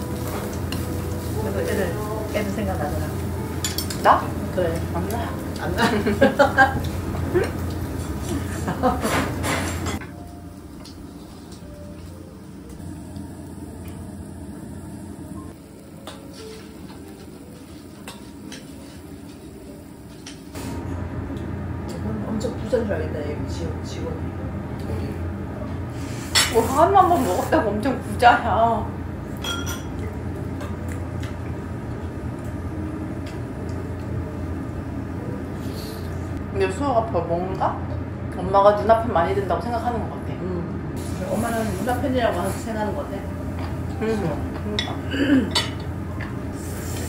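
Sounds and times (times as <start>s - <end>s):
food sizzling: 0.0s - 23.8s, 25.9s - 36.4s, 41.0s - 47.0s
dining room hum: 0.0s - 47.0s.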